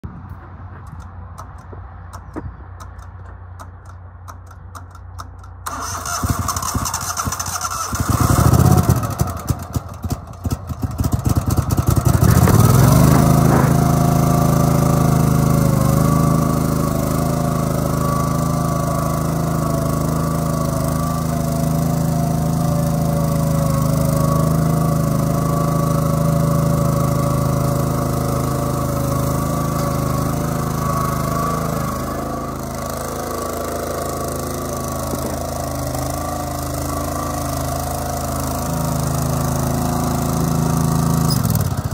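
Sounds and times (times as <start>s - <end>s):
mower engine cranking and running: 0.2s - 41.9s.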